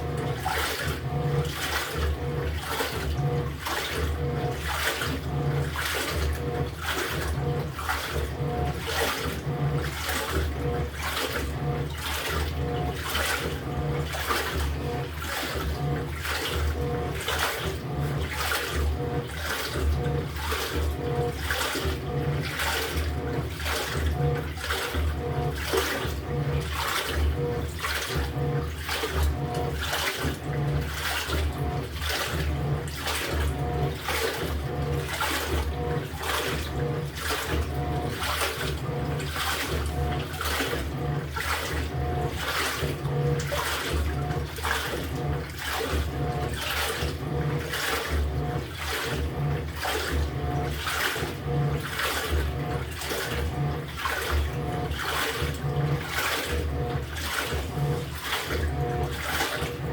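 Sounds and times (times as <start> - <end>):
washing machine motor hum: 0.0 - 59.9
washing machine swishing water: 0.0 - 59.9.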